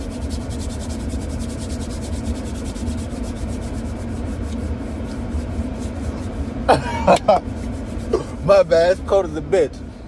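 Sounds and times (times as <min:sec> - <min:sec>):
fast rubbing or scraping: 0:00.0 - 0:09.0
car engine idling: 0:00.0 - 0:10.0.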